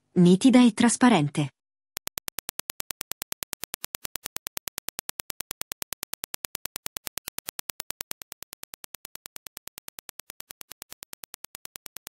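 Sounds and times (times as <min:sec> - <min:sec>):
rapid sharp clicks: 0:02.0 - 0:12.0.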